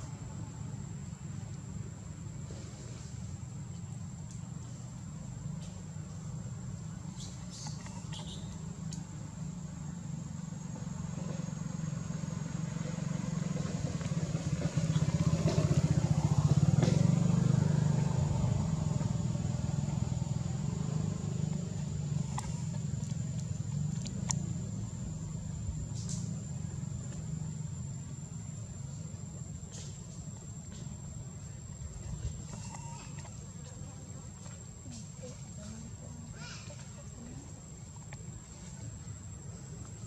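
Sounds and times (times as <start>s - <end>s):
vehicle engine drone: 0.0s - 40.0s.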